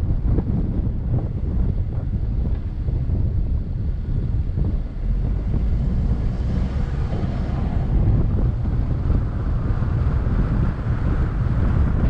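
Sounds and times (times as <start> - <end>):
car driving on sand: 0.0 - 12.0
wind buffeting microphone: 0.0 - 12.0.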